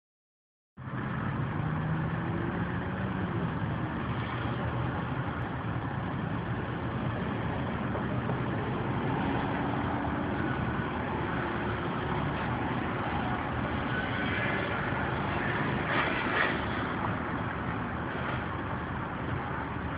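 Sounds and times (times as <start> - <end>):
car engine and road noise: 0.8 - 19.9.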